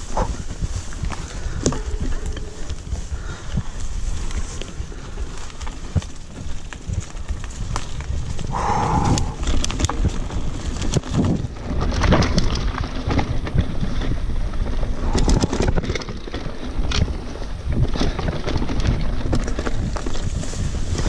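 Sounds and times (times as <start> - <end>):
bike clicks and clatters: 0.0 - 21.0
bike tyres rumbling on dirt: 0.0 - 21.0
wind on microphone: 0.0 - 21.0.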